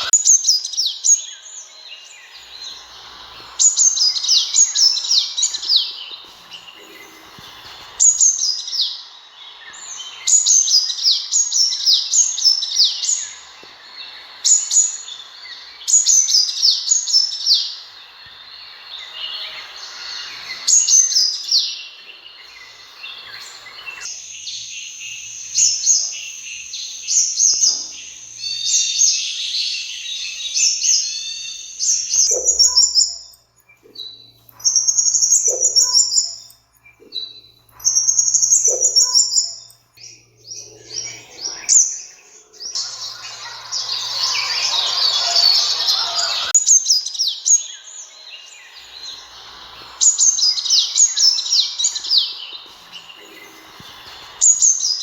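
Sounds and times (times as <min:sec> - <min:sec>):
background hiss: 0:00.0 - 0:55.0
bird high-pitched chirps: 0:00.0 - 0:55.0.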